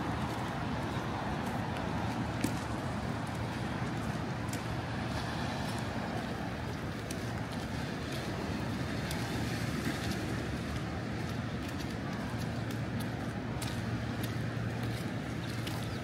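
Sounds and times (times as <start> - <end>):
passing traffic: 0.0 - 16.0.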